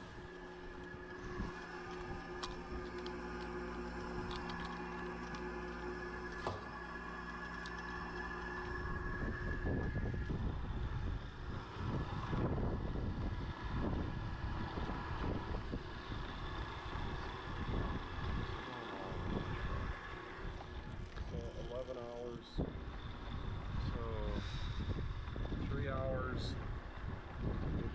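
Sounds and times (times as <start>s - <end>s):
wind rumble on microphone: 0.0s - 5.7s, 7.4s - 27.9s
steady machine hum: 0.0s - 27.9s.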